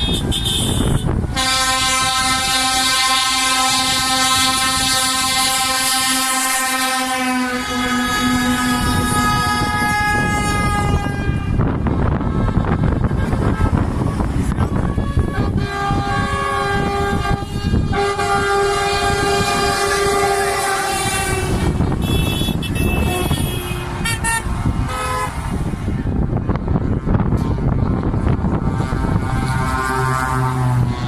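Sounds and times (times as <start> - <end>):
truck air horns blowing: 0.0 - 25.6, 28.2 - 31.0
steady noisy rumble: 0.0 - 29.9.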